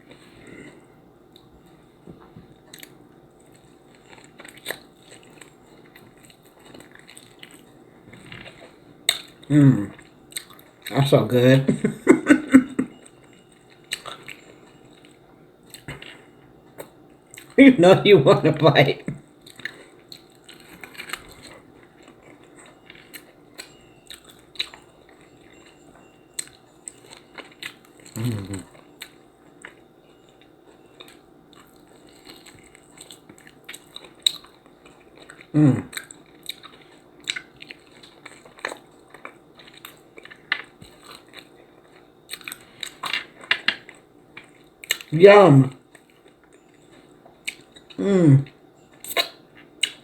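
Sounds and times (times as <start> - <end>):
person chewing food: 0.0 - 11.0, 11.8 - 17.6, 18.4 - 45.2, 45.8 - 50.0.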